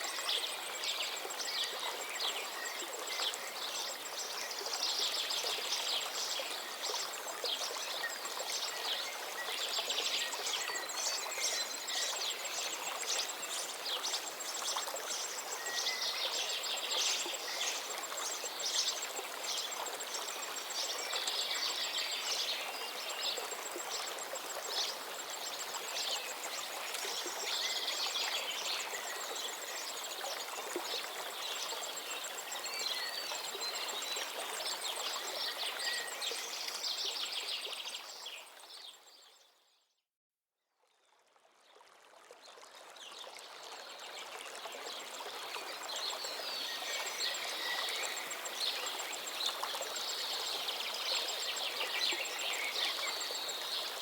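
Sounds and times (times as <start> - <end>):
stream water running: 0.0 - 39.4, 40.9 - 54.0.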